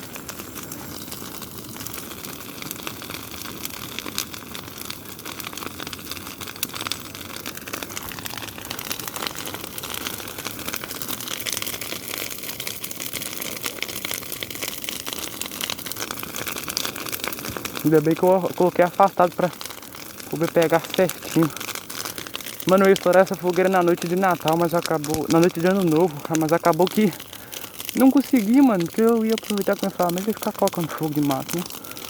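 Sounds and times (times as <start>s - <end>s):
bonfire crackling and popping: 0.0s - 32.0s
fire rushing noise: 0.0s - 32.0s.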